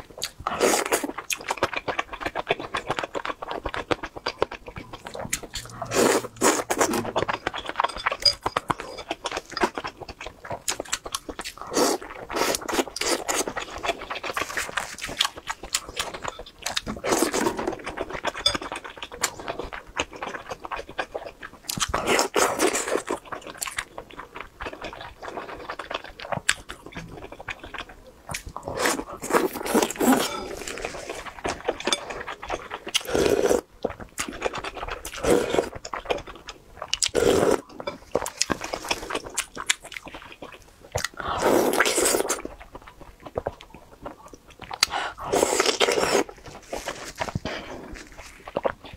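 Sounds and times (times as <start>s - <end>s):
biting and chewing: 0.0s - 48.9s.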